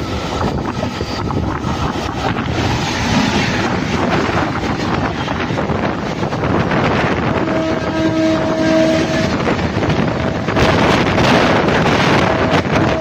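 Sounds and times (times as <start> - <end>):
train coaches rumbling and rattling: 0.0 - 13.0
wind buffeting microphone: 0.0 - 13.0.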